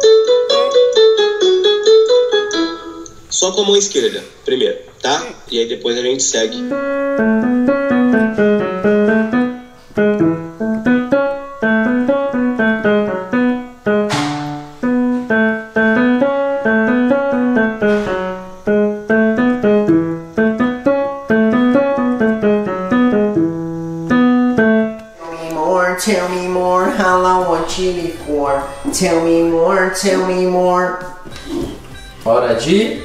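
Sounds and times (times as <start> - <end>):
digital piano playing: 0.0 - 33.0.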